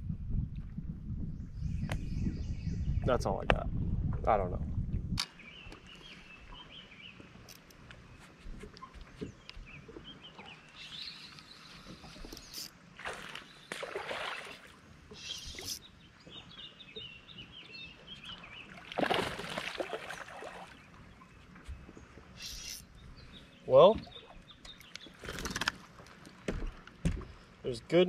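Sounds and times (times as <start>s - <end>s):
faint birds chirping: 5.2s - 28.0s.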